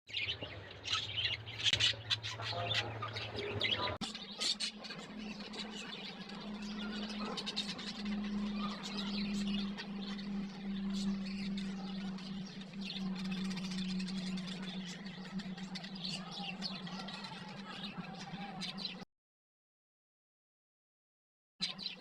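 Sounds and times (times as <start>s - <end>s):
budgerigars chirping: 0.1s - 19.0s
low hum: 0.2s - 18.6s.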